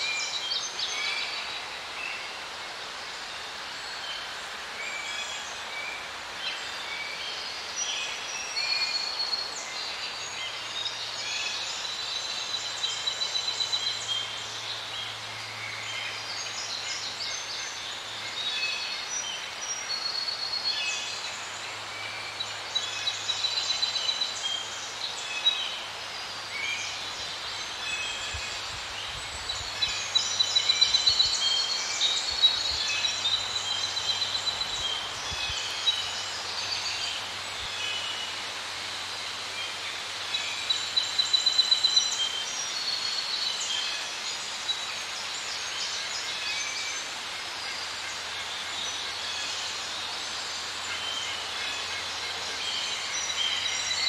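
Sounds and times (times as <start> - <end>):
faint background hiss: 0.0 - 54.0
small birds singing: 0.0 - 54.0.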